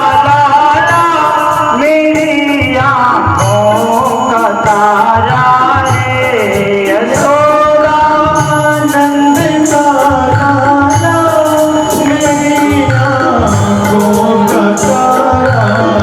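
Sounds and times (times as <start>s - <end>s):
devotional singing: 0.0s - 16.0s
steady percussion beat: 0.0s - 16.0s.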